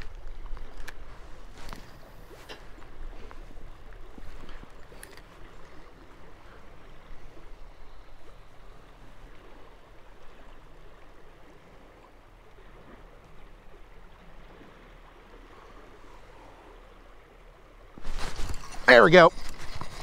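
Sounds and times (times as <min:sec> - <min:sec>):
river water flowing: 0:00.0 - 0:20.0.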